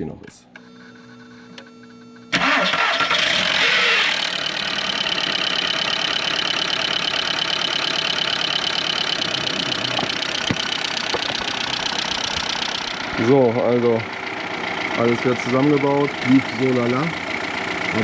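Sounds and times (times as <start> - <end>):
car engine idling with clatter: 2.3 - 18.0
car engine starting: 2.3 - 18.0.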